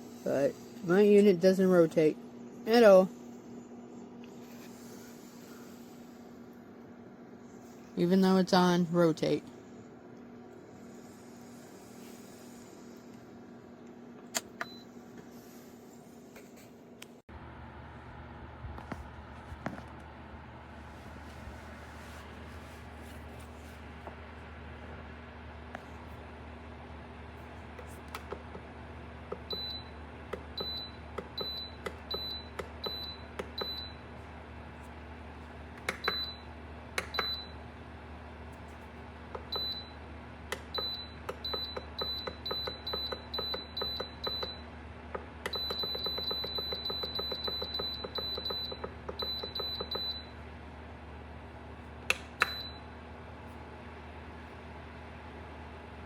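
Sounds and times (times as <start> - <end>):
heater fan humming: 0.0 - 56.0.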